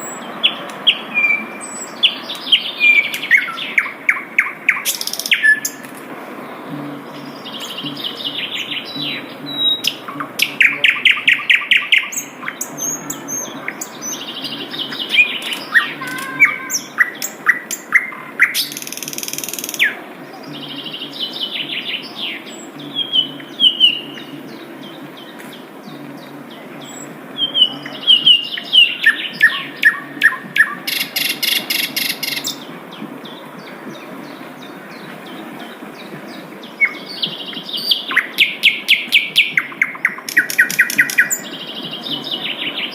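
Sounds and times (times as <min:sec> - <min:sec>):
bird singing trills: 0:00.0 - 0:42.9
harsh buzzy bird calls: 0:00.0 - 0:42.9.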